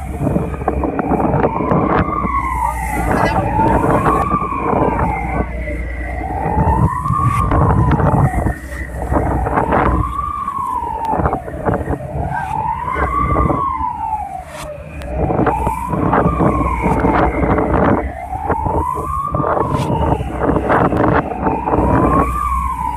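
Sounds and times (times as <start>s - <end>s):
heavy wind: 0.0s - 22.9s
rough sea: 0.0s - 22.9s
siren wailing: 0.0s - 22.9s.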